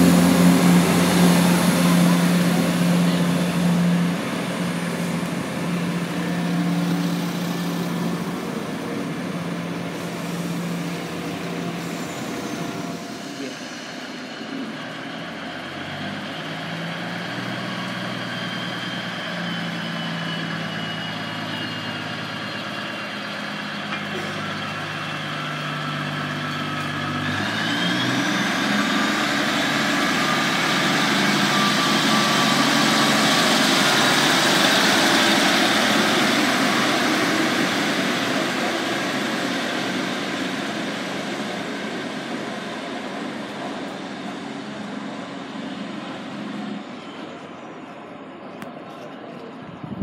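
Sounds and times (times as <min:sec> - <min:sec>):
diesel railcar engine: 0:00.0 - 0:50.0.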